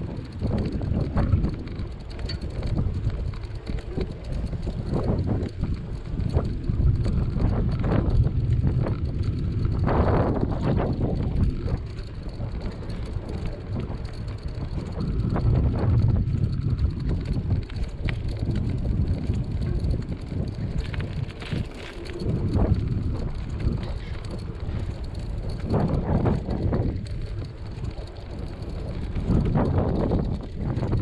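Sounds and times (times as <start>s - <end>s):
tyres rolling on asphalt: 0.0s - 31.0s
wind buffeting microphone: 0.0s - 31.0s.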